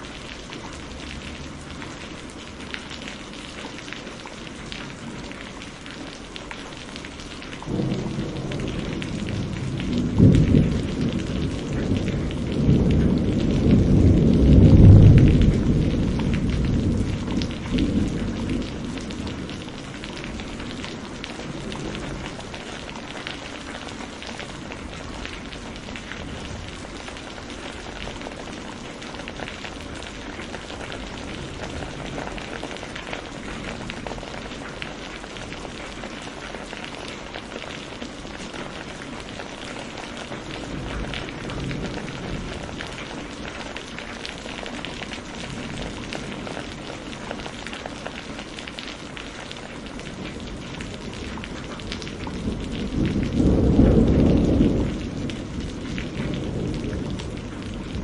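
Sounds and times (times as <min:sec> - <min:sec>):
heavy rain falling: 0:00.0 - 0:58.0
low rumble of thunder: 0:07.0 - 0:58.0.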